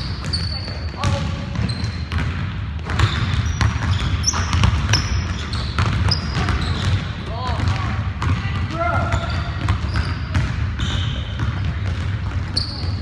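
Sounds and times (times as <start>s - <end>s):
sneaker squeaks: 0.0s - 7.2s, 8.8s - 13.0s
basketball bouncing on wooden floor: 0.0s - 13.0s.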